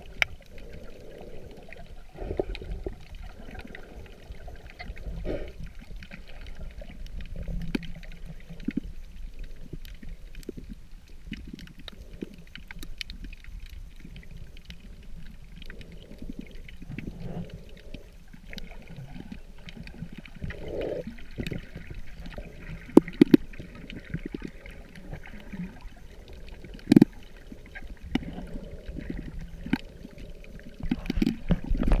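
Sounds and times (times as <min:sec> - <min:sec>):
low underwater rumble: 0:00.0 - 0:32.0
small clicks and crackles: 0:00.0 - 0:32.0
underwater water sloshing: 0:00.0 - 0:32.0.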